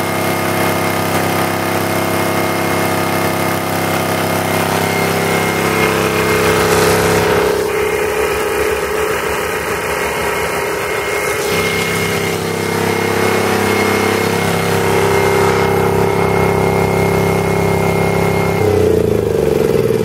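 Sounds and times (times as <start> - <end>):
generator high whine: 0.0 - 20.0
single-cylinder engine running: 0.0 - 20.0.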